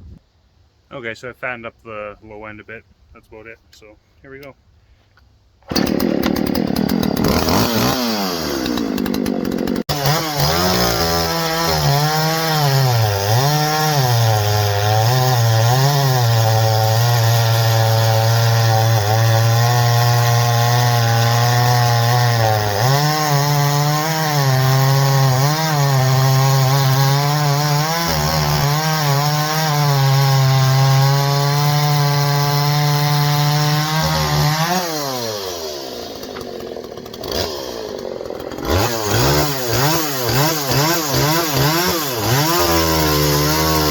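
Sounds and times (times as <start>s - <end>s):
chainsaw engine revving: 5.6s - 43.9s.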